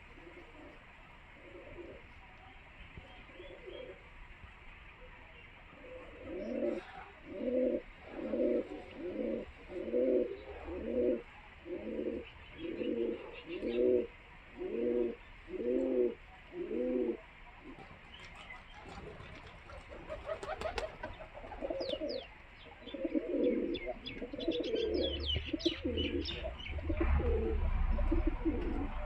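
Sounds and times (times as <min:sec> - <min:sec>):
pigeons cooing: 0:00.0 - 0:02.2, 0:03.2 - 0:04.1, 0:05.7 - 0:29.0.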